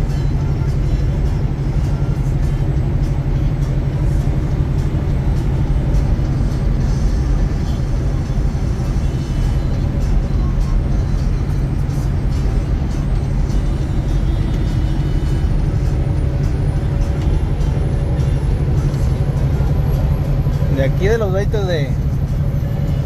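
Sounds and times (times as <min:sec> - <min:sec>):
diesel engine drone: 0:00.0 - 0:23.0
road noise: 0:00.0 - 0:23.0.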